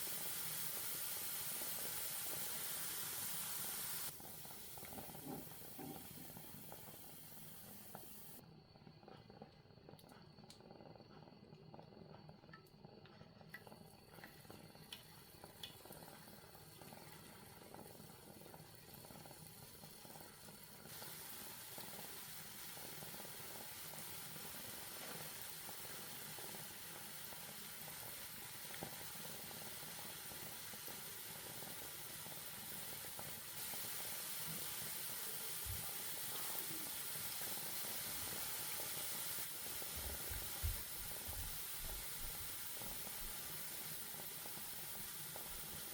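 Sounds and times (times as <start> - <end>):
batter sizzling in hot fat: 0.0 - 8.4, 9.3 - 45.9.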